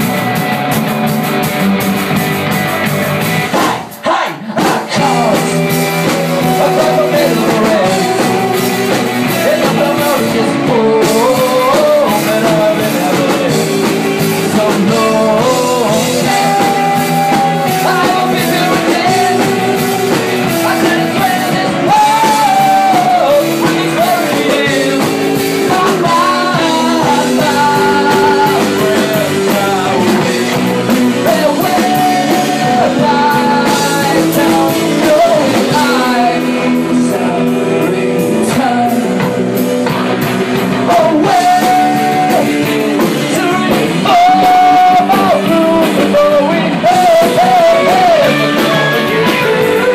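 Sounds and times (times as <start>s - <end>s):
drum kit: 0.0s - 49.9s
live rock band music: 0.0s - 49.9s.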